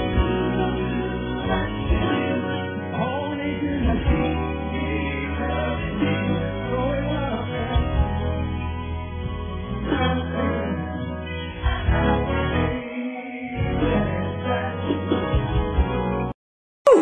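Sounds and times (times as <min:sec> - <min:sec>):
song with singing: 0:00.0 - 0:08.4, 0:09.8 - 0:15.4.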